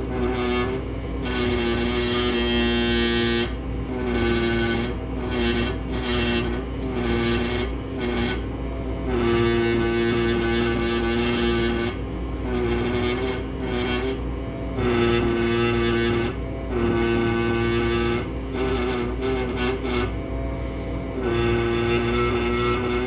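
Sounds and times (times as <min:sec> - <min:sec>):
air scribe buzzing: 0:00.0 - 0:23.0
steady low hum: 0:00.0 - 0:23.0.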